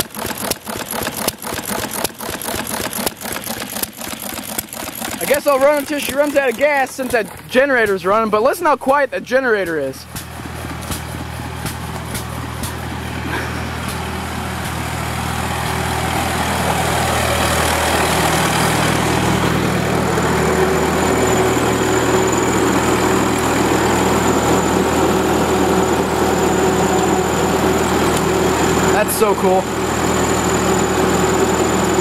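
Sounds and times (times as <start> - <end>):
generator engine running: 0.0 - 32.0.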